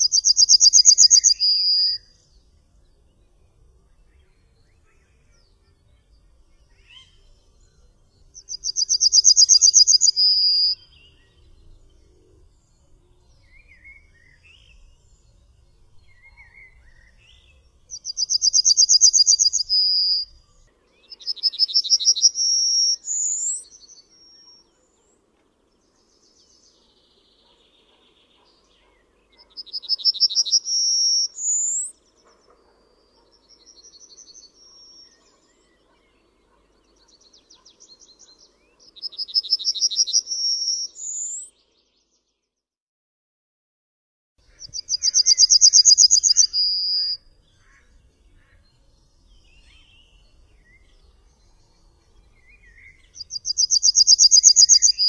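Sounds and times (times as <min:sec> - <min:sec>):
bird singing: 0:00.0 - 0:42.6, 0:44.4 - 0:55.0
faint bird chirps: 0:00.0 - 0:42.6, 0:44.4 - 0:55.0.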